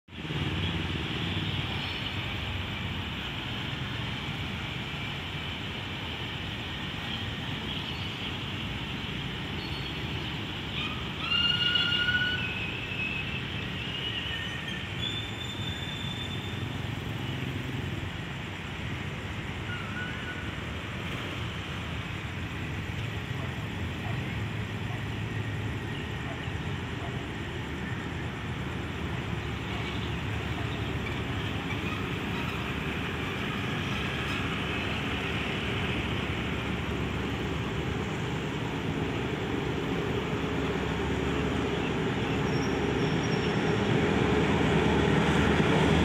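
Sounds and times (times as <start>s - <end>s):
road traffic rumble and hiss: 0.1s - 46.0s.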